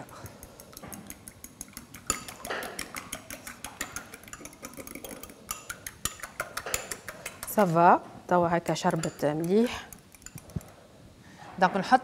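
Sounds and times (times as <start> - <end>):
fork clinking against glass bowl: 0.0 - 7.8, 8.7 - 10.7.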